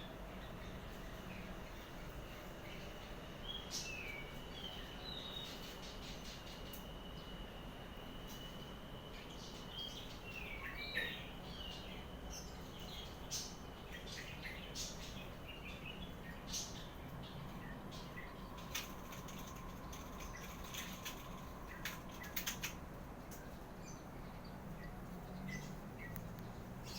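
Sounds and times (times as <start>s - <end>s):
thin steady high tone: 0.0s - 22.7s
small birds chirping: 0.0s - 26.9s.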